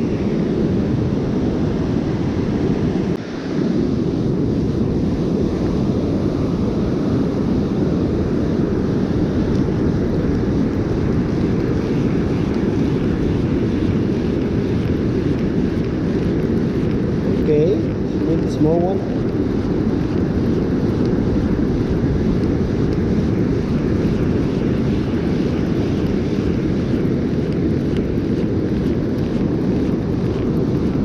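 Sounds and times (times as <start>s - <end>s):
surf washing: 0.0s - 31.0s
wind rumbling on microphone: 0.0s - 31.0s.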